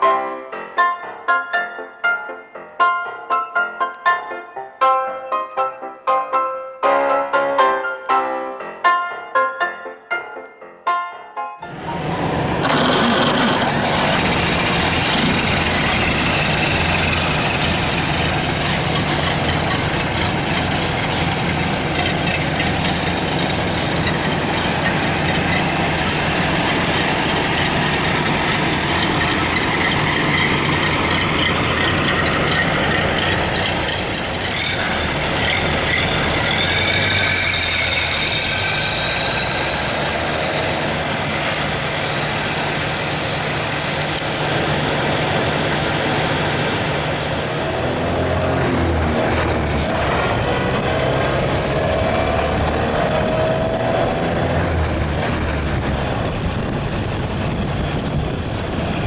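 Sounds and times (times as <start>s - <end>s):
truck engine running: 11.7s - 59.0s.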